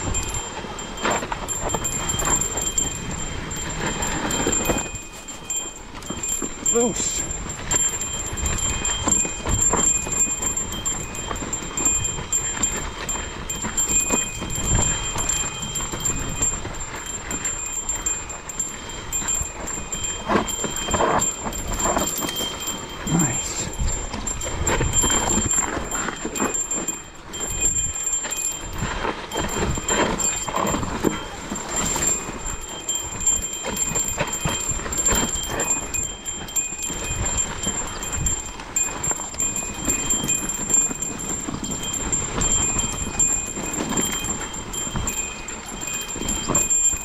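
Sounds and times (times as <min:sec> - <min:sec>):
bike tyres crunching over dirt: 0:00.0 - 0:47.0.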